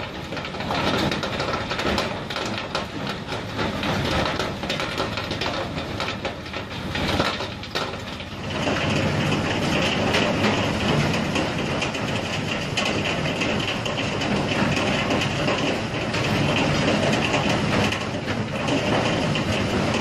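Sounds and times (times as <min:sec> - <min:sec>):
heavy machinery rattling: 0:00.0 - 0:20.0.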